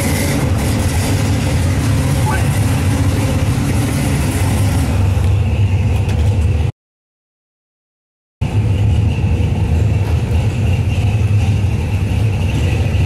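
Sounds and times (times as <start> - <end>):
car engines rumbling: 0.0 - 6.7, 8.4 - 13.0.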